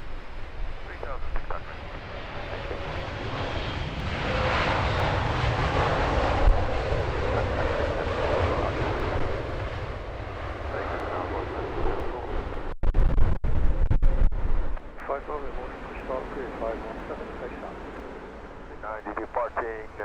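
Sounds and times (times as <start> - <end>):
jet airliner engines passing: 0.0 - 12.8, 13.7 - 20.0.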